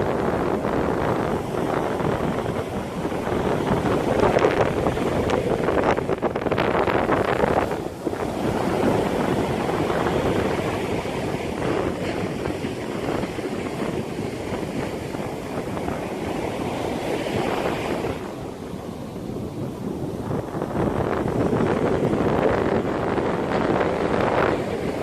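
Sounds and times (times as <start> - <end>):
sea waves washing in: 0.0 - 25.0
wind noise on microphone: 0.0 - 25.0.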